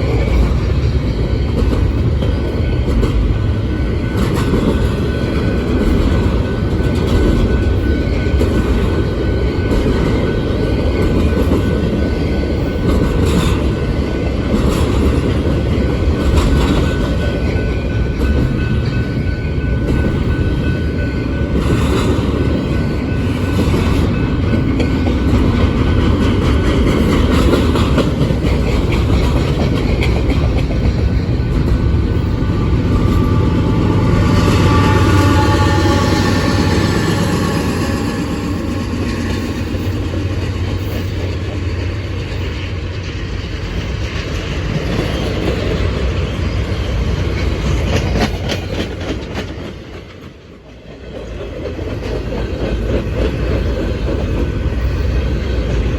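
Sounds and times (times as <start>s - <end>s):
steel wheels rumbling on rail: 0.0s - 55.9s
wheels clacking over rail joints: 0.0s - 55.9s.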